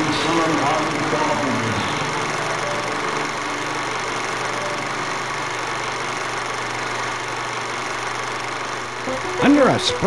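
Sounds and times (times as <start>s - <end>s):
low hum: 0.0s - 9.9s
steady hiss: 0.0s - 10.0s.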